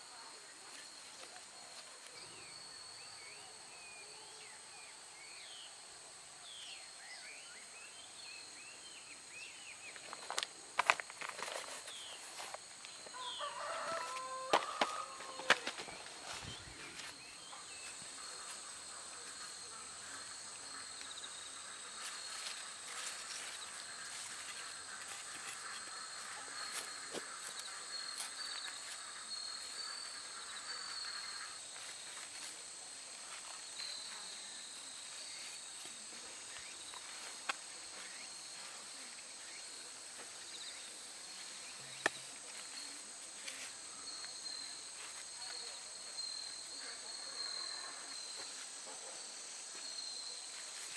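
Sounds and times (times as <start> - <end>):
insects calling in high tones: 0.0 - 50.9
low warbling insect chorus: 0.0 - 50.9.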